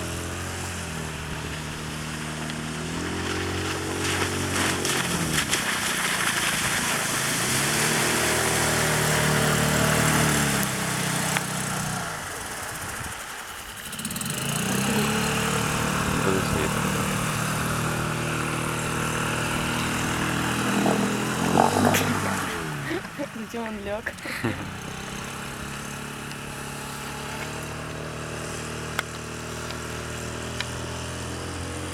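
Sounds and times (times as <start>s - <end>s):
outboard motor running: 0.0s - 31.9s.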